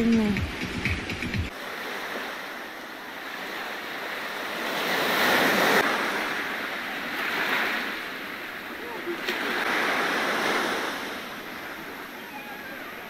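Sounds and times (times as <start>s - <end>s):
sea waves washing on beach: 1.5s - 13.0s.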